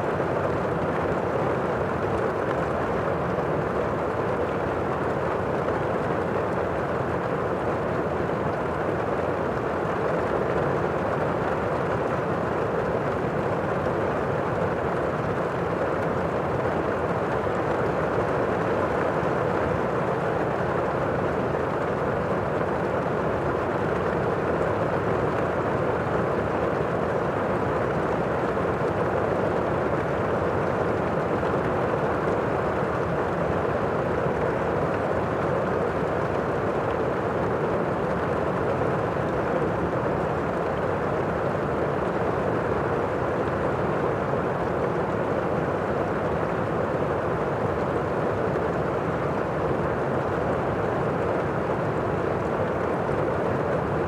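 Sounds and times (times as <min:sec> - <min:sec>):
muffled heavy rain: 0:00.0 - 0:54.0.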